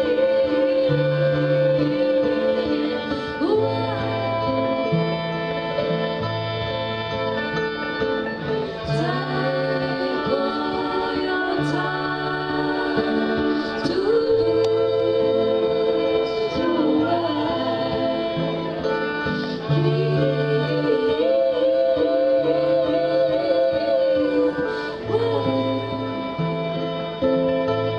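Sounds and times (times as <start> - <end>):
person singing: 0.0 - 7.0, 8.3 - 27.4
acoustic bluegrass band playing: 0.0 - 27.9.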